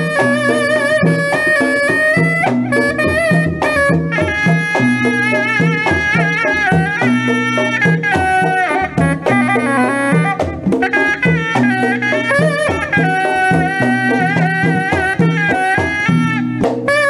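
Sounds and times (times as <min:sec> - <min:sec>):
reedy wind instrument melody: 0:00.0 - 0:17.0
repeating drum beat: 0:00.0 - 0:17.0.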